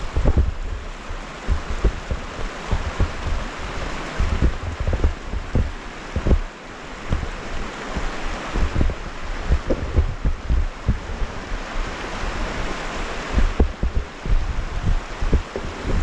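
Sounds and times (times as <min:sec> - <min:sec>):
steady rushing hiss: 0:00.0 - 0:16.0
wind buffeting microphone: 0:00.0 - 0:16.0.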